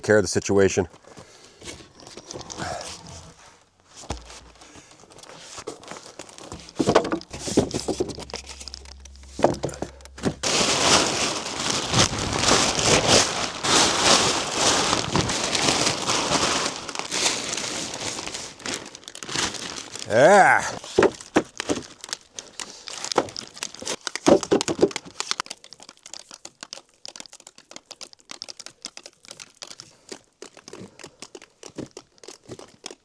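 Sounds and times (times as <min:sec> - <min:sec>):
plastic tarp crinkling: 0:04.2 - 0:33.0.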